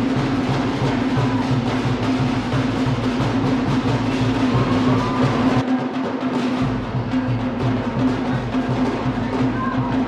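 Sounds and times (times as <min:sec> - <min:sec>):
music with heavy drumming: 0:00.0 - 0:10.0.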